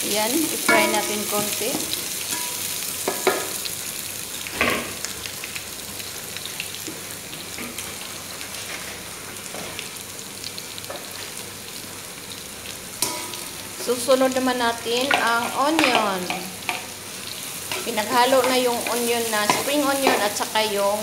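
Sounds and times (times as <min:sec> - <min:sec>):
carrots sizzling in hot oil: 0:00.0 - 0:21.0.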